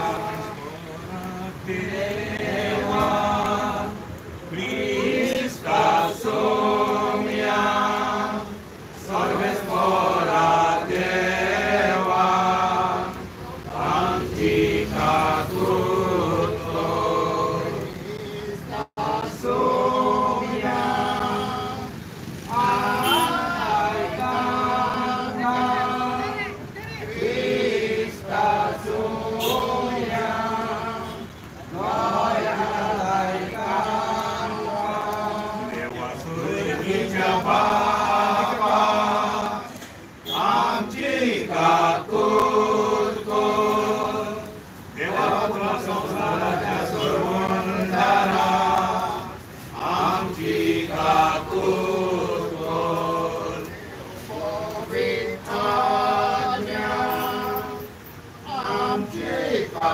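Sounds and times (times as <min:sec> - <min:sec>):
group singing a hymn in unison: 0:00.0 - 0:59.9.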